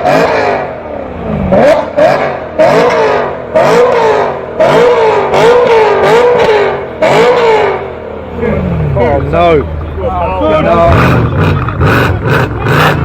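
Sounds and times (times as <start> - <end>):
car exhaust revving: 0.0 - 13.0.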